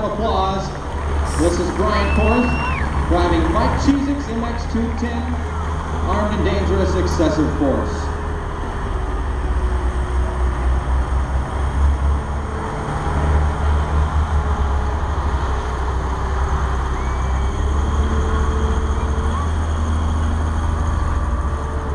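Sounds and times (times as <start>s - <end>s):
tractor engine rumbling: 0.0s - 21.9s.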